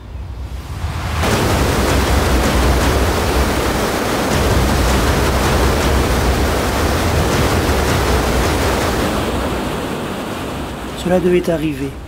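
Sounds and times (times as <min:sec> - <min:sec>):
deep rumble: 0:00.0 - 0:11.0
whitewater torrent rushing: 0:00.3 - 0:12.0.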